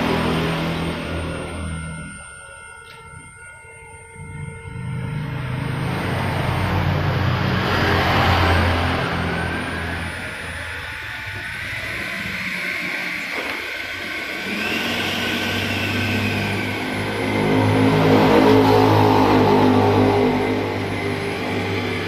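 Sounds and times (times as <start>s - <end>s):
electric ducted fan whine: 0.0s - 22.0s.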